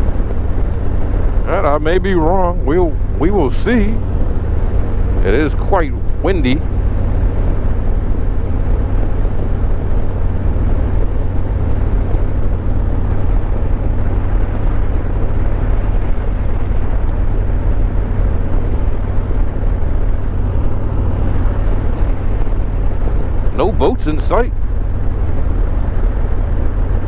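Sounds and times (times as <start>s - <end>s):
wind on microphone: 0.0s - 27.0s.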